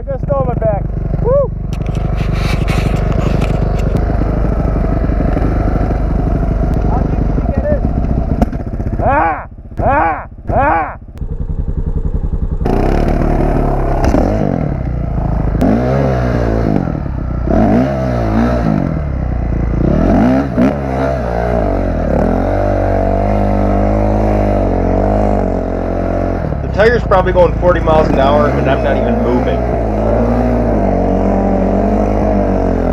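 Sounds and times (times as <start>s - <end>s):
dirt bike engine revving: 0.0s - 32.9s
tire spinning in snow: 0.0s - 32.9s.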